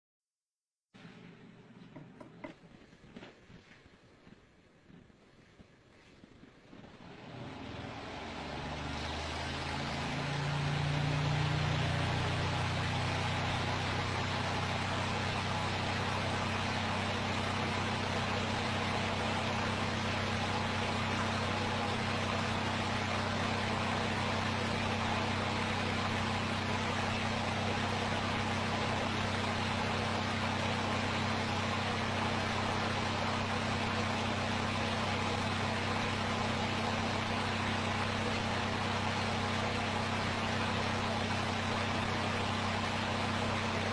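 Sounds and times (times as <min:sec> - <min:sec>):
fan motor humming: 0:01.0 - 0:43.9.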